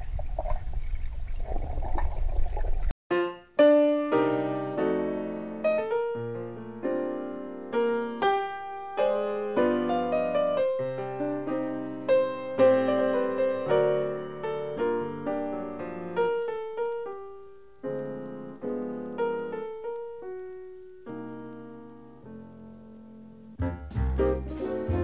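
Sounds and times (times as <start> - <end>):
gentle piano melody: 3.1 - 25.0.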